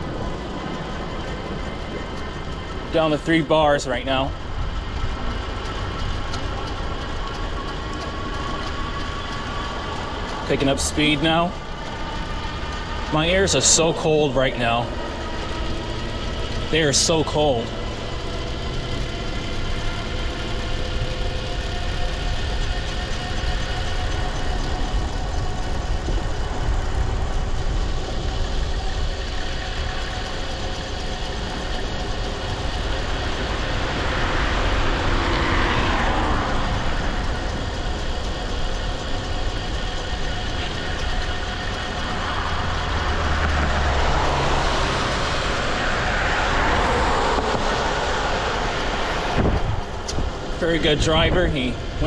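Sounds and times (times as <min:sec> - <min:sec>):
wind rumbling on microphone: 0:00.0 - 0:13.6, 0:17.7 - 0:52.0
faint steady whine: 0:00.0 - 0:52.0
motor vehicle passing: 0:00.0 - 0:52.0.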